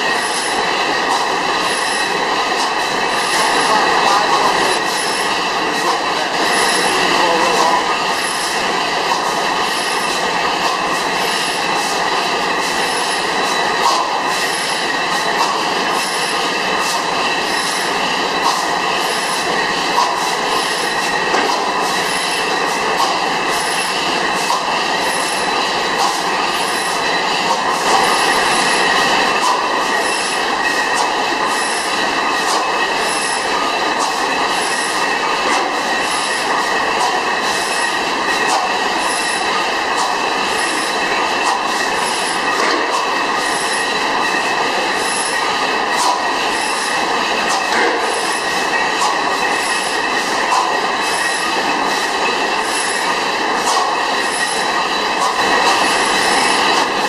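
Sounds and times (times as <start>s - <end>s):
stationary engine clattering: 0.0s - 57.0s.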